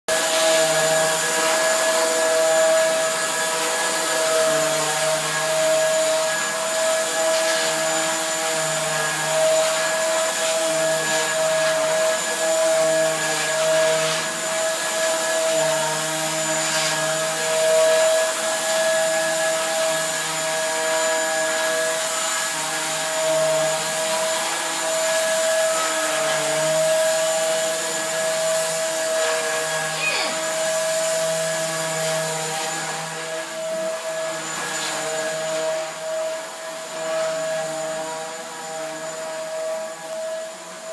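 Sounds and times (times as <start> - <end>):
vacuum cleaner running: 0.1 - 40.9.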